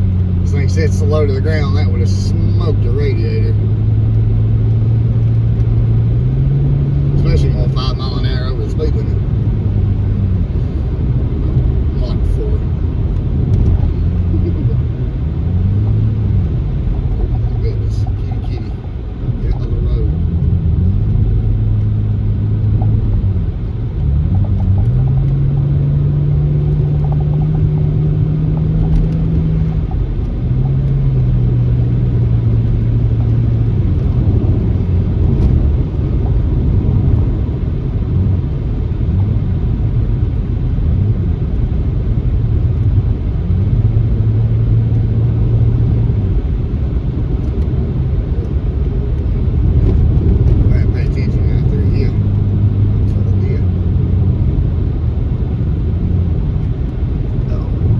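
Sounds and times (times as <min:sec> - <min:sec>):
car engine revving: 0:00.0 - 0:57.9
road rumble: 0:00.0 - 0:57.9.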